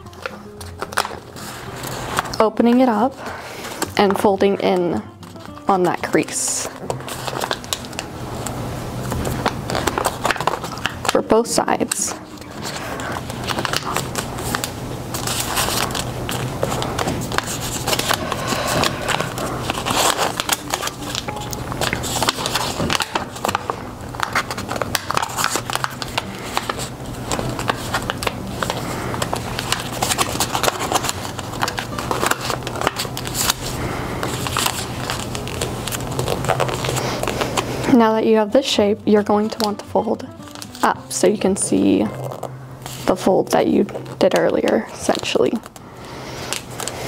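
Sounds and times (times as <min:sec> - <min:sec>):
paper rustling and crinkling: 0:00.0 - 0:38.0, 0:39.1 - 0:47.0
steady low hum: 0:00.0 - 0:47.0.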